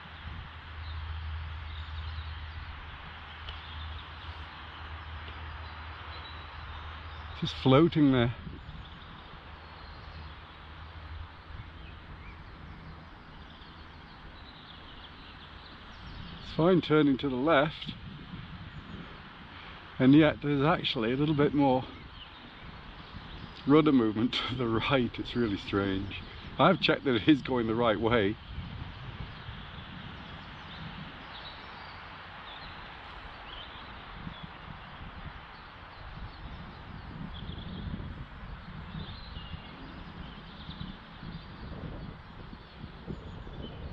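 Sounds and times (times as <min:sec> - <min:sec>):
steady rushing hiss: 0:00.0 - 0:43.7
wind rumble on microphone: 0:00.0 - 0:43.9.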